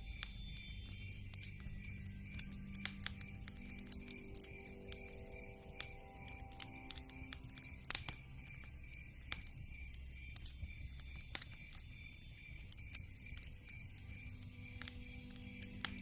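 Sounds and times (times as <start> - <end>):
campfire crackling and popping: 0.0 - 16.0
cricket chirping: 0.0 - 16.0.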